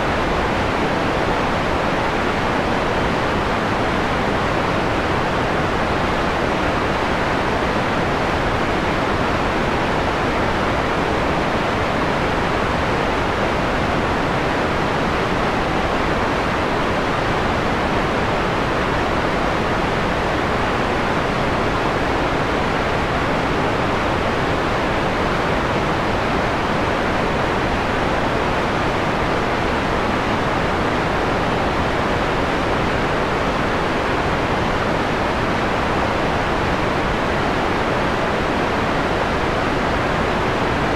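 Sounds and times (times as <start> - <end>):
filtered white noise hiss: 0.0 - 40.9.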